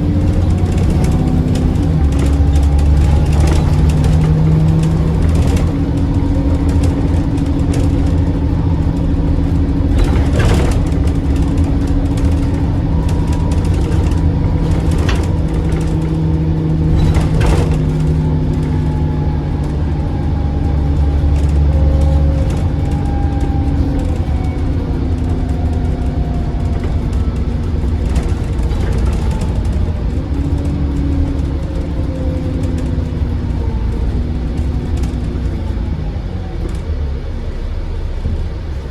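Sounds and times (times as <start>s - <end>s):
diesel bus engine under load: 0.0s - 38.9s
sharp knocks and rattles: 0.1s - 33.4s.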